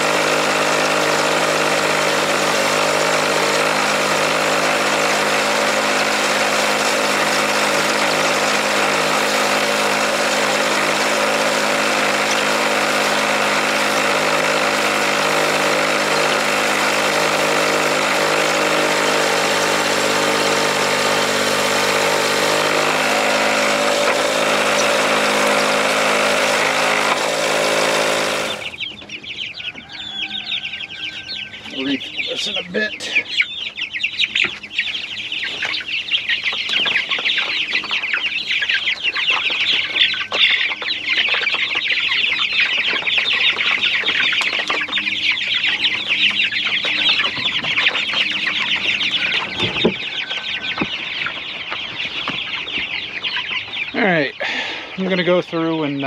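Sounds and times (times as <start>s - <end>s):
motor engine running: 0.0s - 30.0s, 30.6s - 56.0s
chickens clucking and peeping: 0.0s - 56.0s.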